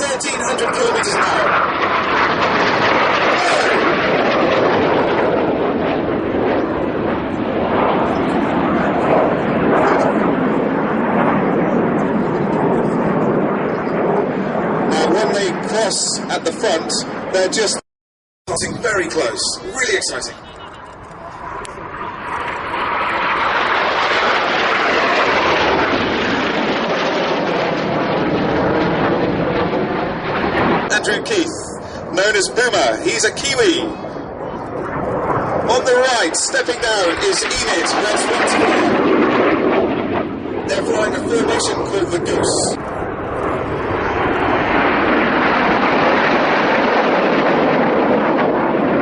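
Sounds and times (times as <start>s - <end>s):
jets flying past low: 0.0s - 17.8s, 18.5s - 49.0s.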